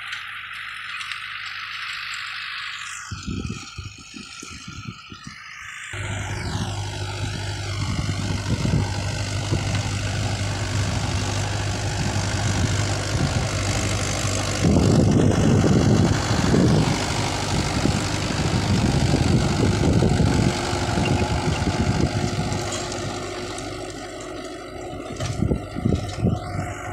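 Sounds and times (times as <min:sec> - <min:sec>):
tractor diesel engine under load: 0:00.0 - 0:26.9.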